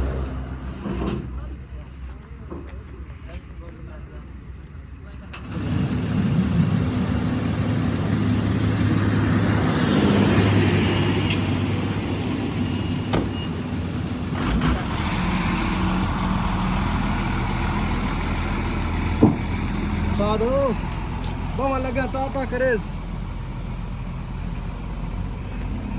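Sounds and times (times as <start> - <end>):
heavy truck engine running: 4.2 - 25.9.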